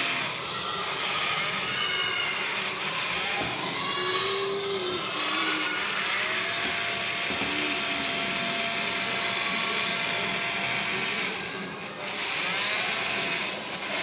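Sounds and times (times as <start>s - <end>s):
small motor high whine: 0.0s - 14.0s.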